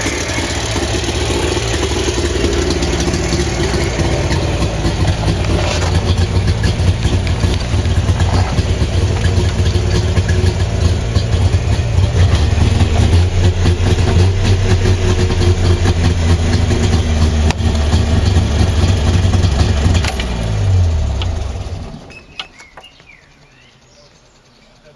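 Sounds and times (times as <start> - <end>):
two-stroke car engine running: 0.0 - 24.9.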